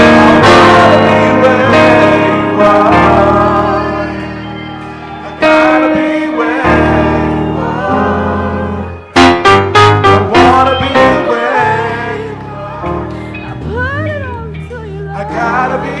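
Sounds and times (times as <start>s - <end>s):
voices singing: 0.0s - 16.0s.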